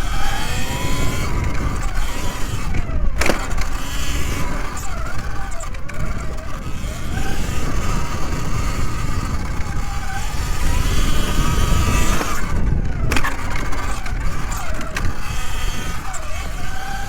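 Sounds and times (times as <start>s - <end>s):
electric motor whine: 0.0s - 17.0s
wind rumble on microphone: 0.0s - 17.0s.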